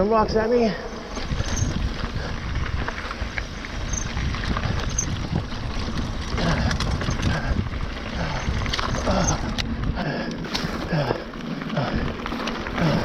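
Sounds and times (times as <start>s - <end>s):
bike rattling: 0.0s - 13.0s
wind buffeting microphone: 0.0s - 13.0s
tyres crunching on gravel: 0.8s - 9.8s, 10.4s - 13.0s.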